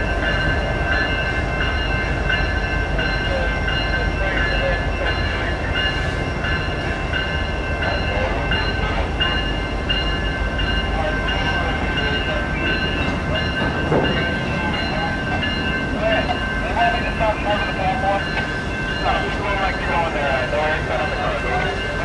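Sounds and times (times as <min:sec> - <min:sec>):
crossing bell ringing: 0:00.0 - 0:22.0
train wheels rumbling on rails: 0:00.0 - 0:22.0.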